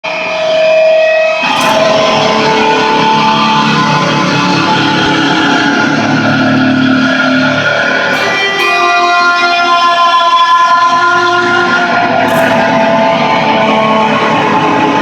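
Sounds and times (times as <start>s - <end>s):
loud electric guitar notes: 0.2s - 15.0s.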